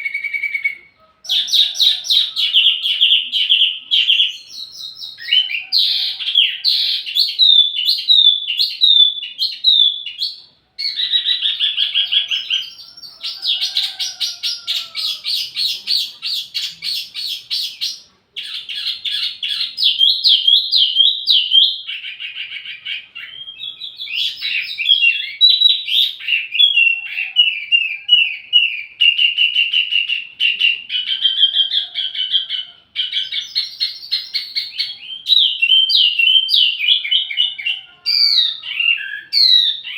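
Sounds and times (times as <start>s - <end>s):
songbird singing high chirps: 0.0s - 39.9s.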